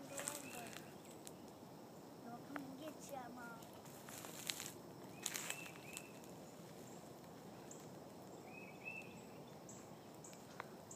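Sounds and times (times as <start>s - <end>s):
outdoor background hiss: 0.0s - 10.9s.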